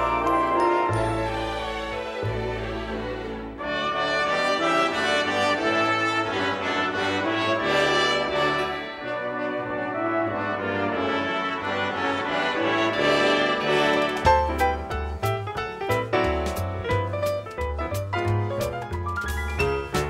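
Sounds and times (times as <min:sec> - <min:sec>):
brass instrumental music: 0:00.0 - 0:20.0.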